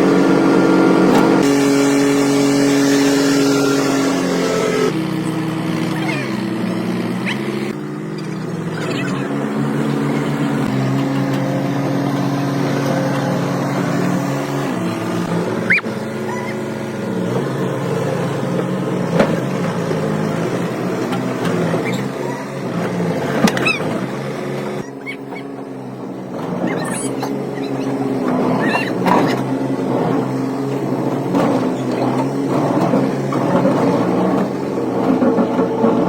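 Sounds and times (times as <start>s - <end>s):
machine running: 0.0s - 36.0s.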